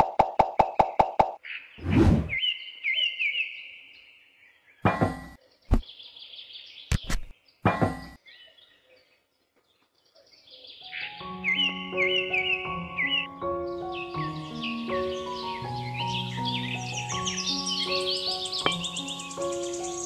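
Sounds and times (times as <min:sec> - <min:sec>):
birds chirping: 0:01.3 - 0:20.0.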